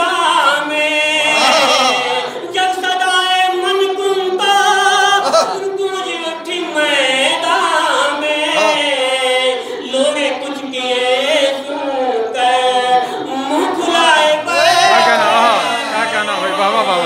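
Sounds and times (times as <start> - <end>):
man chanting through a microphone: 0.0 - 17.0.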